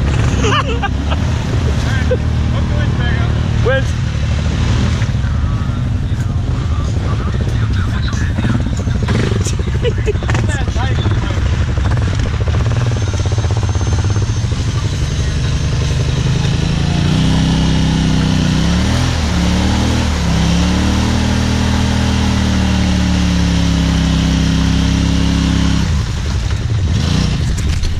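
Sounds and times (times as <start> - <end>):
vehicle engine revving under load: 0.0 - 27.9.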